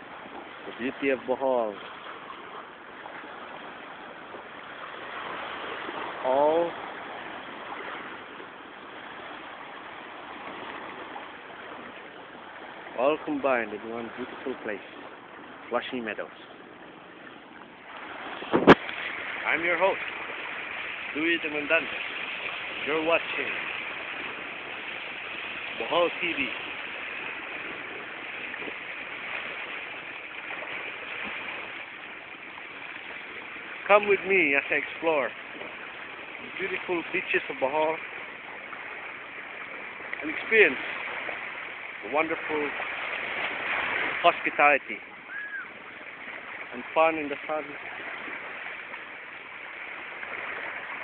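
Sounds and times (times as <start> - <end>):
sea waves: 0.0 - 51.0
wind at the shore: 0.0 - 51.0.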